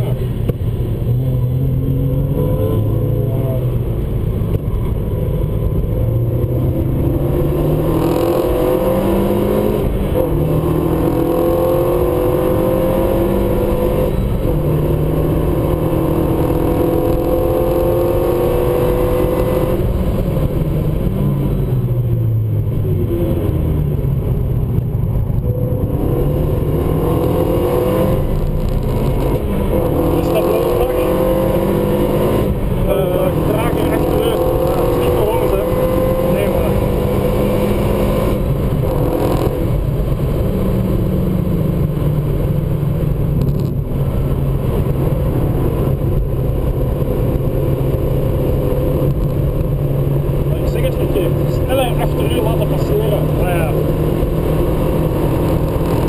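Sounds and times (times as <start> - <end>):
car engine revving in cabin: 0.0 - 56.0.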